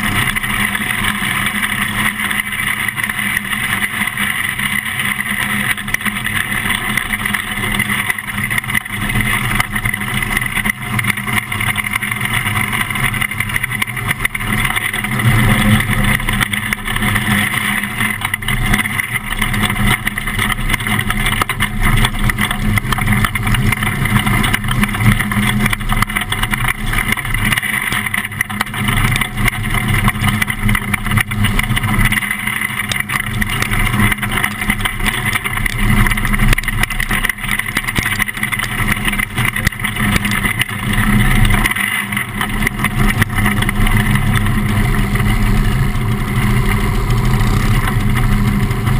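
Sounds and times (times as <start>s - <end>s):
race car engine running: 0.0s - 48.9s.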